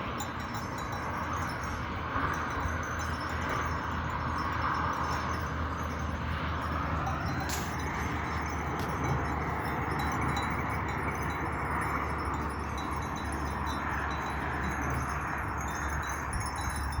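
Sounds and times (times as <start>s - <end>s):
sheep bells tinkling: 0.0s - 17.0s.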